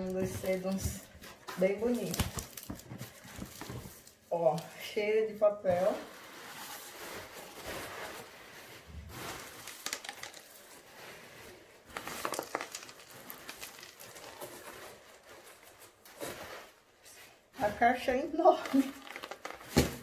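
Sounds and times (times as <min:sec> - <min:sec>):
packing paper rustling: 0:00.0 - 0:04.8, 0:05.7 - 0:17.1, 0:18.5 - 0:20.0.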